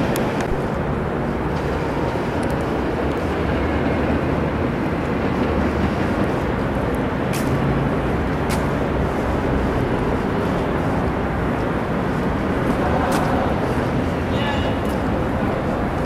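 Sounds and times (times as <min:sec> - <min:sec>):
dense low outdoor rumble: 0:00.0 - 0:16.0.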